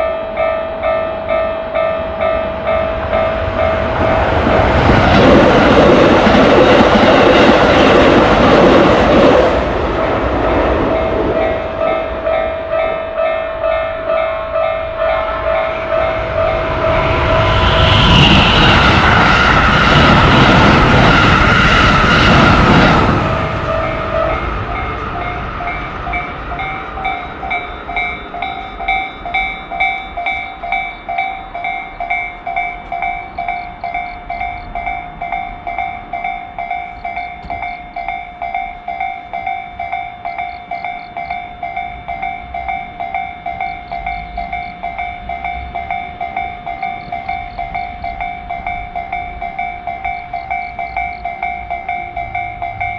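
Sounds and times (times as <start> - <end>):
railroad crossing bell ringing: 0.0 - 52.9
train rushing past: 0.0 - 52.9.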